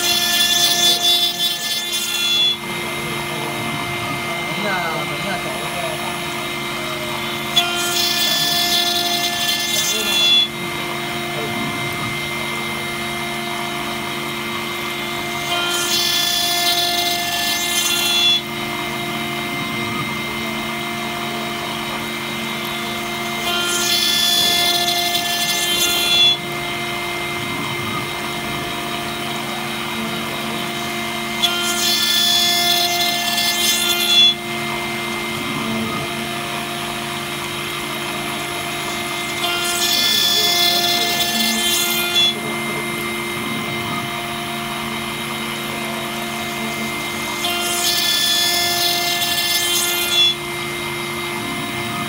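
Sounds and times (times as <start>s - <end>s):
high ringing cutting noise: 0.0s - 52.0s
router spindle whine: 0.0s - 52.0s.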